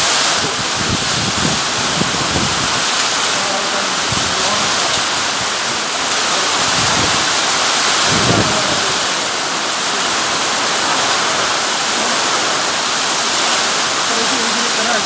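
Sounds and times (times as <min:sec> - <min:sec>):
heavy rain pouring: 0:00.0 - 0:15.0
strong wind gust: 0:00.0 - 0:15.0.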